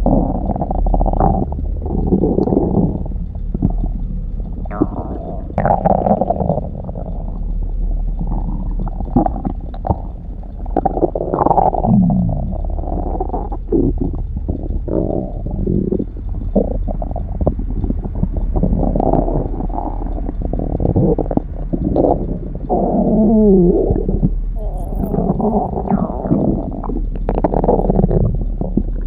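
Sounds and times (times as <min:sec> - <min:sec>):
stomach growling and gurgling: 0:00.0 - 0:29.0.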